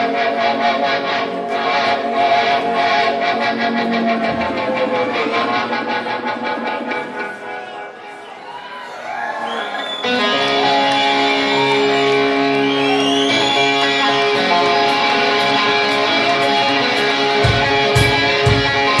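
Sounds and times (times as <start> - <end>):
strummed guitar chords: 0.0 - 8.4, 10.1 - 19.0.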